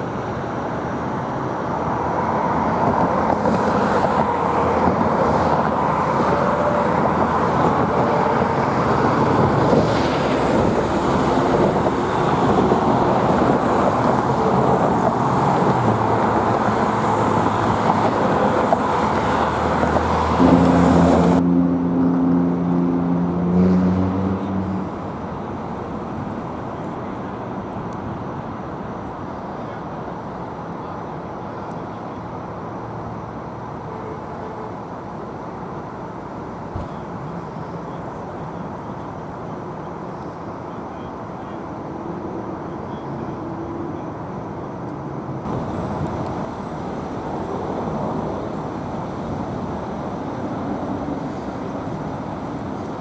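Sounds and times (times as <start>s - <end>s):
heavy vehicle engine drone: 0.0s - 33.8s, 42.6s - 53.0s
road traffic passing: 0.0s - 53.0s.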